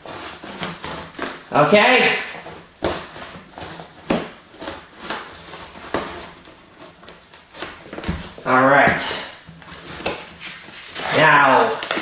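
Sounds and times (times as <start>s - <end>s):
cardboard scraping and rustling: 0.0s - 12.0s.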